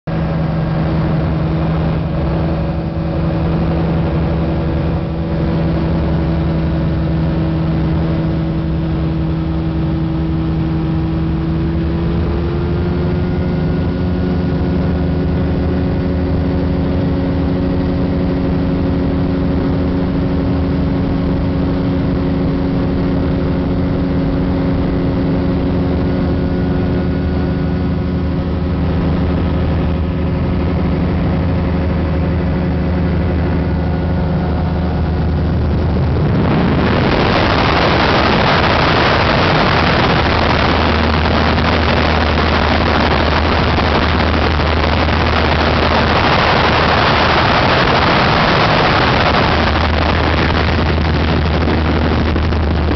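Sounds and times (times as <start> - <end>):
light aircraft engine running: 0.0 - 52.9.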